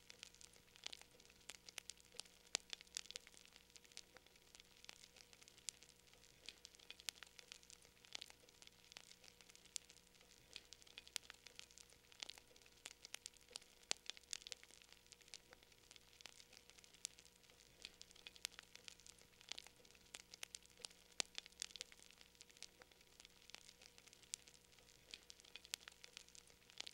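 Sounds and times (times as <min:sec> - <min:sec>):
faint hiss: 0:00.0 - 0:26.9
fire popping and snapping: 0:00.0 - 0:26.9.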